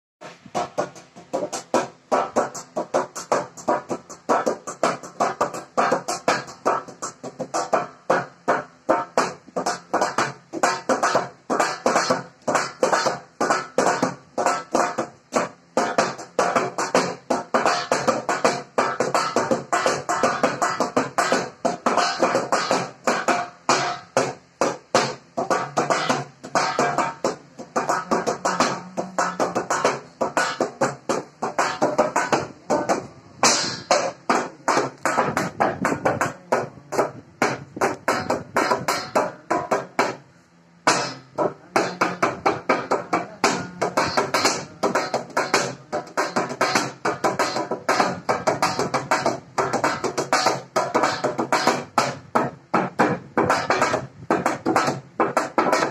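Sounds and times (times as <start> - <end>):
metal plate drumming: 0.2 - 55.9.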